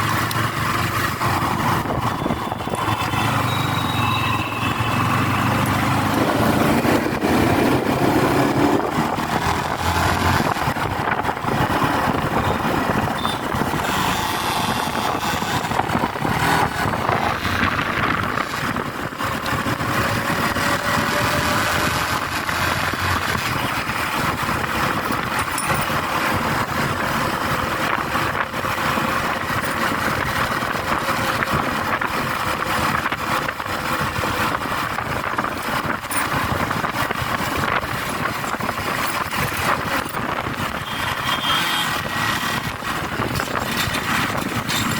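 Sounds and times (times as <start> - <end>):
motorcycle engine running: 0.0 - 44.9
road and wind noise: 0.0 - 44.9.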